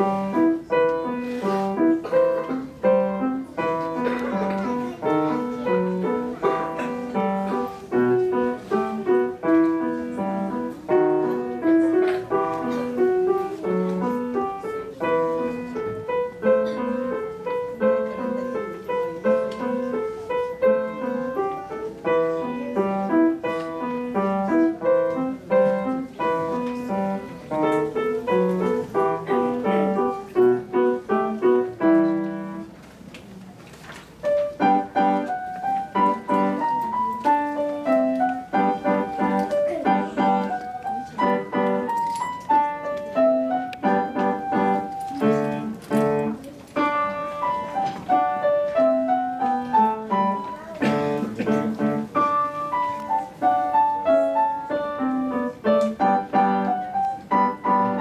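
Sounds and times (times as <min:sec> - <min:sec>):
solo piano playing lively piece: 0:00.0 - 0:33.1, 0:34.0 - 0:58.0.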